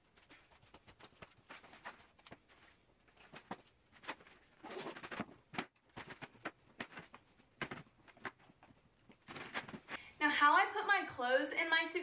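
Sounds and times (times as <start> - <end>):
clothing rustling: 0.0 - 10.0.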